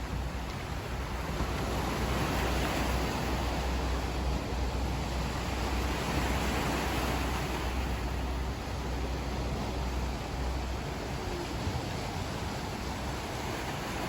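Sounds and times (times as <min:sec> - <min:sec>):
sea surf rushing: 0:00.0 - 0:14.0
wind: 0:00.0 - 0:14.0
wind rumble on microphone: 0:00.0 - 0:14.0.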